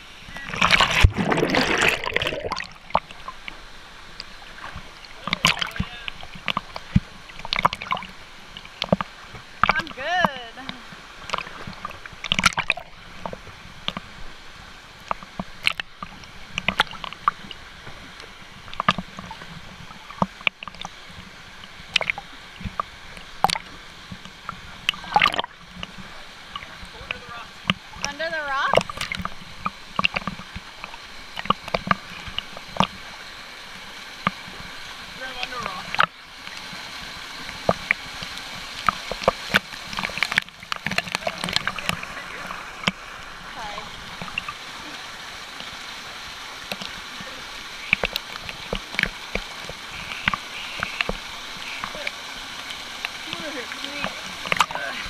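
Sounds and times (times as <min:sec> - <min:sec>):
rush of water: 0:00.0 - 0:55.0
water slapping and gurgling: 0:00.0 - 0:55.0.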